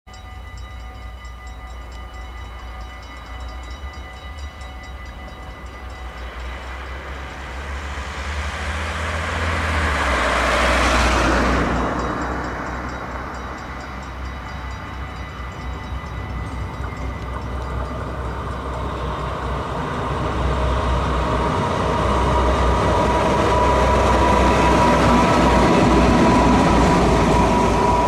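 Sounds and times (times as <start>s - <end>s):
diesel locomotives rumbling: 0.1s - 28.0s
rushing noise: 5.4s - 28.0s.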